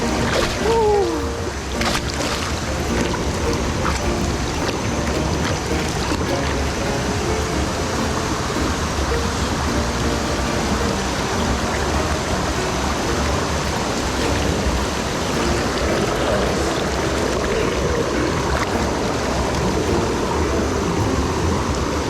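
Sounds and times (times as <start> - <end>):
waterfall roar: 0.0 - 22.0.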